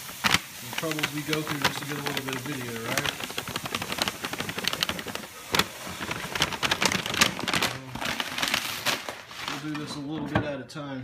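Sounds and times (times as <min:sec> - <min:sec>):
grain pouring into cooler: 0:00.0 - 0:10.0
paper sack rustling: 0:00.0 - 0:10.1.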